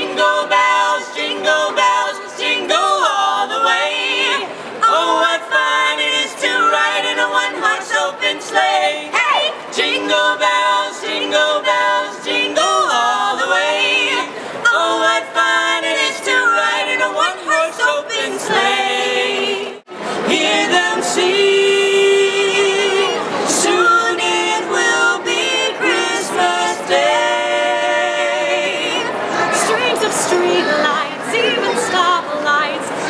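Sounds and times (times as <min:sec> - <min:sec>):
carolers singing in harmony: 0:00.0 - 0:33.0.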